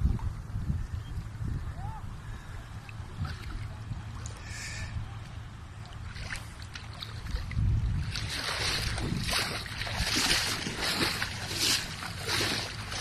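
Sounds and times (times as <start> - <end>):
constant low rumble: 0.0 - 13.0
seawater lapping and splashing: 2.1 - 13.0.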